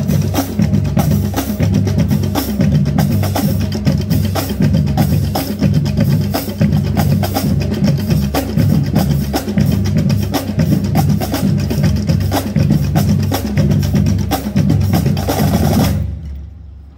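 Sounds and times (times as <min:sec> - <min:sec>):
marching drum line cadence: 0:00.0 - 0:16.9.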